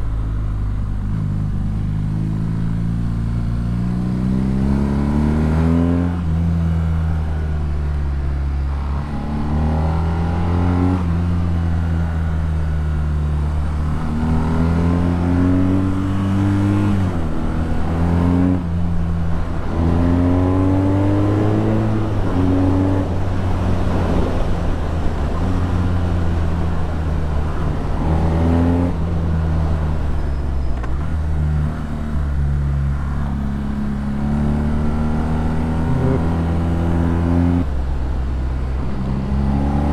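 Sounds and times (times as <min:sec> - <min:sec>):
motorcycle accelerating through gears: 0:00.9 - 0:30.1, 0:30.8 - 0:37.9, 0:38.6 - 0:39.9.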